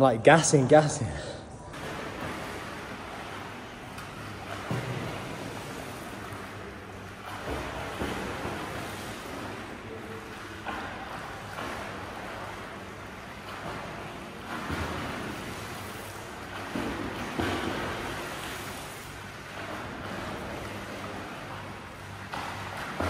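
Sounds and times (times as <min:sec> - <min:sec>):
swimmer splashing water: 0:01.7 - 0:23.0.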